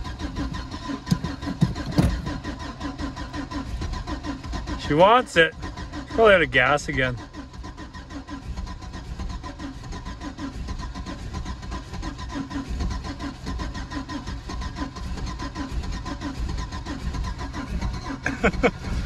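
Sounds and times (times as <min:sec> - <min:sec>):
starter cranking engine: 0:00.0 - 0:19.0.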